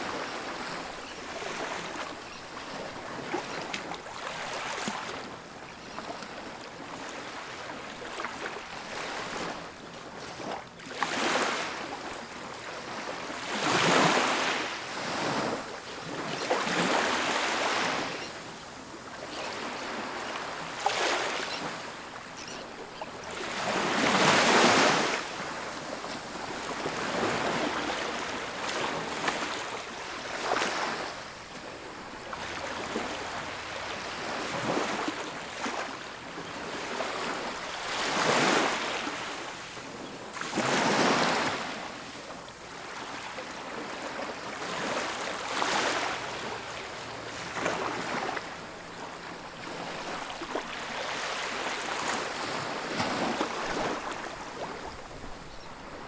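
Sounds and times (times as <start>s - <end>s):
ocean waves breaking: 0.0s - 5.4s, 6.1s - 12.0s, 12.6s - 56.0s.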